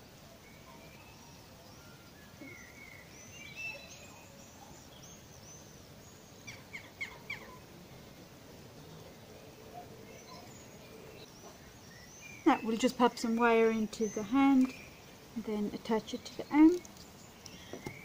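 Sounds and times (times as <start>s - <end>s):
faint birdsong: 0.0s - 18.0s
steady background noise: 0.0s - 18.0s.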